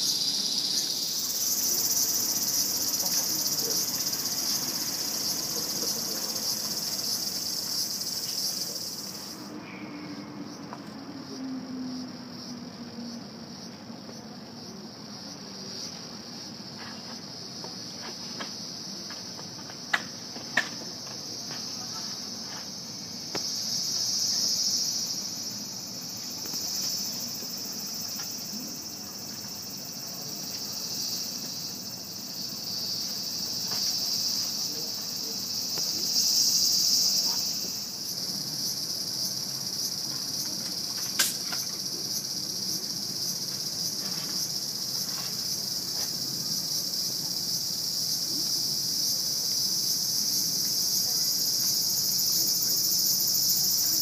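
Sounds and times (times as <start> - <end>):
cicadas chorus: 0.0 - 54.0.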